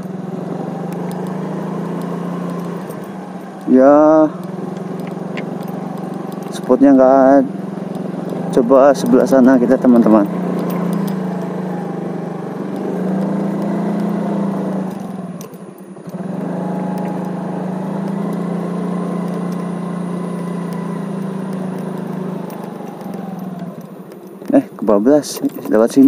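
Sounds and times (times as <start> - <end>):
scooter engine running: 0.0 - 26.0.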